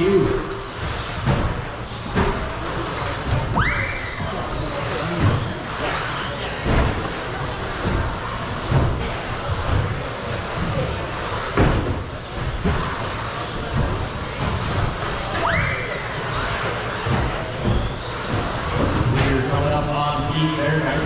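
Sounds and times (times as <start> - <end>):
radio-controlled trucks racing: 0.0 - 21.0.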